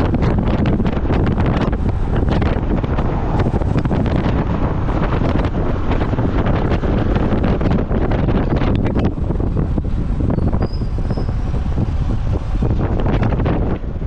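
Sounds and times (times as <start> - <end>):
road noise: 0.0 - 14.0
wind buffeting microphone: 0.0 - 14.0.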